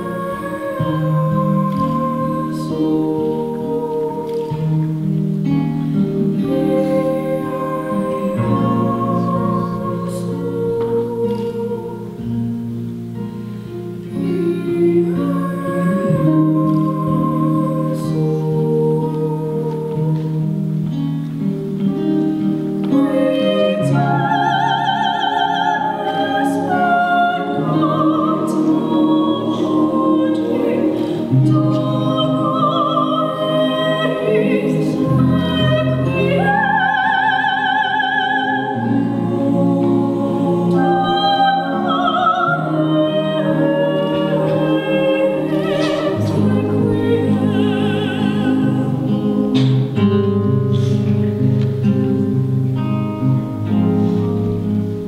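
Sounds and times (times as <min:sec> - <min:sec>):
woman singing classical: 0:00.0 - 0:50.8
quiet accompaniment: 0:00.0 - 0:55.0.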